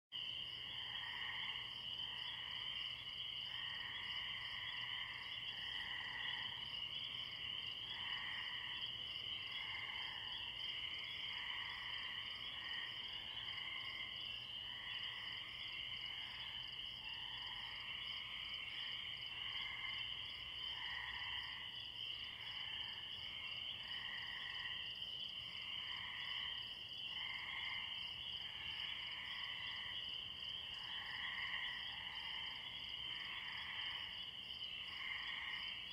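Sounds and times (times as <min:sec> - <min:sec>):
frogs trilling: 0:00.2 - 0:35.9
tree crickets: 0:00.2 - 0:35.9.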